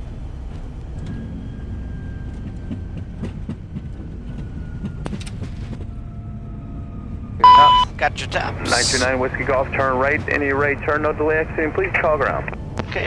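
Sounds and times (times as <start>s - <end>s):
wheels rumbling on runway: 0.0s - 13.0s.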